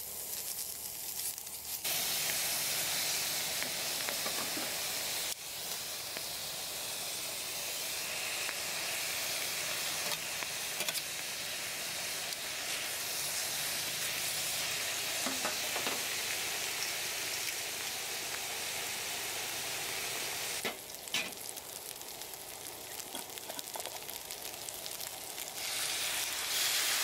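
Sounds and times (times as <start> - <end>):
food sizzling in a frying pan: 0.0 - 27.0.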